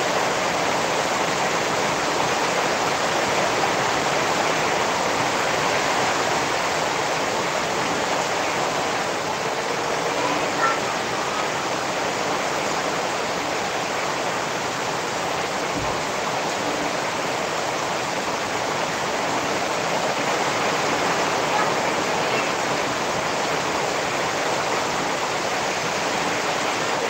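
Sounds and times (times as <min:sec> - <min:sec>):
rain falling steadily: 0:00.0 - 0:27.0.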